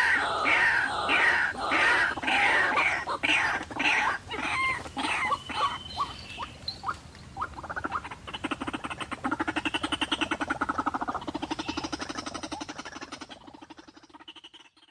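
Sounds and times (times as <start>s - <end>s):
waterhen calling: 0.0s - 14.9s.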